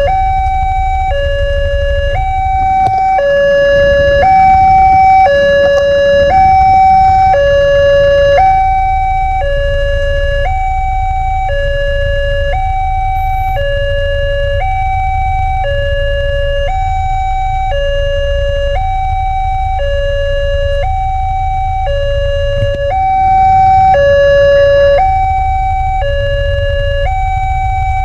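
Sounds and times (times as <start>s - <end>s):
low rumble: 0.0s - 28.0s
two-tone crossing warning siren: 0.0s - 28.0s.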